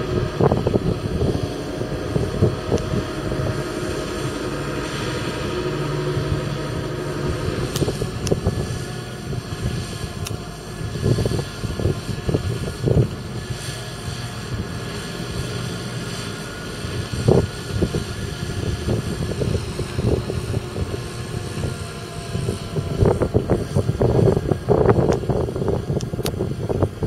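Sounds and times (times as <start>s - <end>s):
tractor diesel engine running: 0.0s - 27.0s
wind buffeting microphone: 0.0s - 27.0s.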